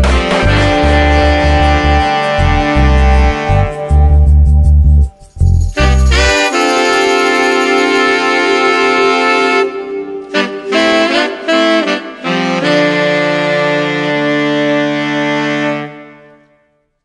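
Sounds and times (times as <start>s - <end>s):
background music held notes: 0.0s - 16.8s.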